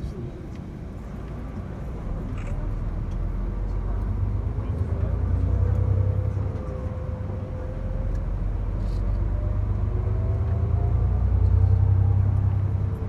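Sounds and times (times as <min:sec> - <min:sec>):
car rumbling on the move: 0:01.9 - 0:13.0.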